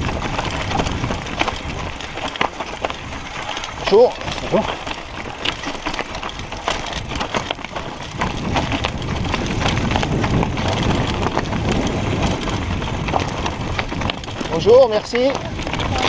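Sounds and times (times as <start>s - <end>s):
bike clicking and rattling: 0.0s - 16.0s.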